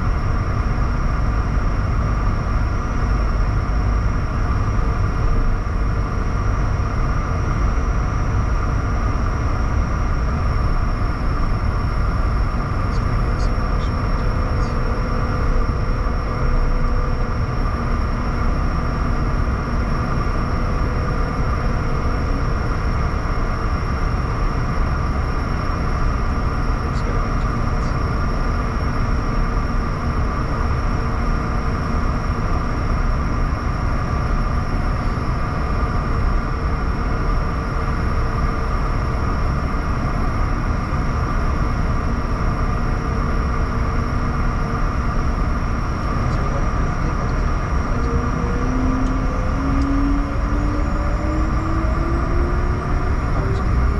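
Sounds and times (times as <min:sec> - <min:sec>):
jet engine rumble with whine: 0:00.0 - 0:53.9.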